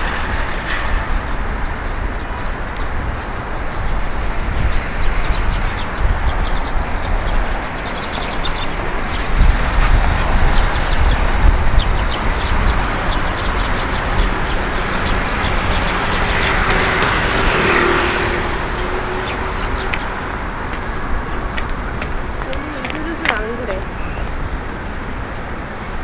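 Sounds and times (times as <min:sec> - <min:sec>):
city traffic noise: 0:00.0 - 0:26.0
vehicle passing: 0:00.0 - 0:26.0
wind buffeting microphone: 0:00.0 - 0:26.0.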